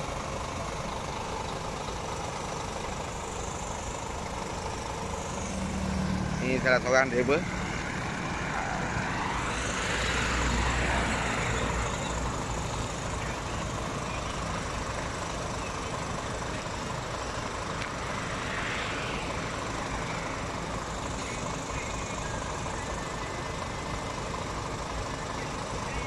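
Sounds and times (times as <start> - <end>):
low traffic rumble: 0.0 - 26.0
vehicles passing: 0.0 - 26.0.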